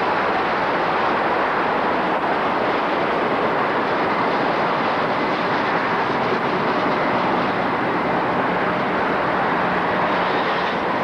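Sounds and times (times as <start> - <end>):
freight train rumbling on rails: 0.0 - 11.0.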